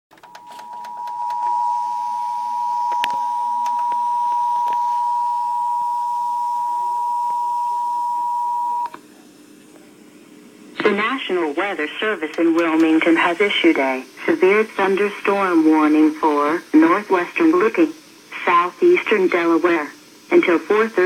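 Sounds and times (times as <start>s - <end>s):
faint hum: 0.1s - 21.0s
static crackles: 0.2s - 21.0s.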